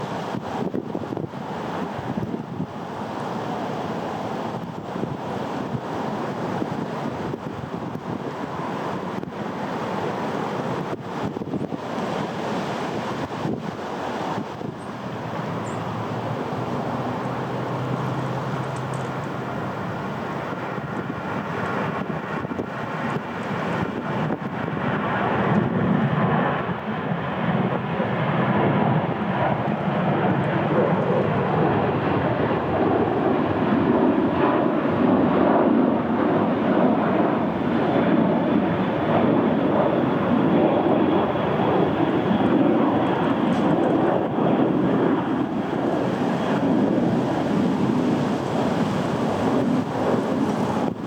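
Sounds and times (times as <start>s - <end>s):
jet engine rumble: 0.0s - 51.0s.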